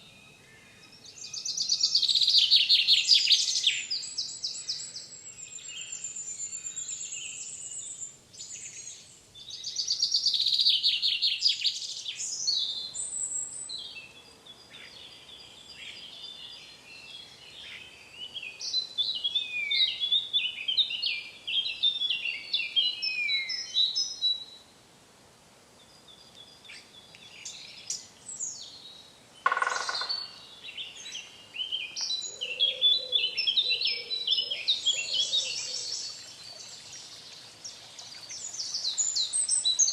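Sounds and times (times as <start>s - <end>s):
wild birds singing: 0.0s - 24.7s, 25.7s - 39.9s.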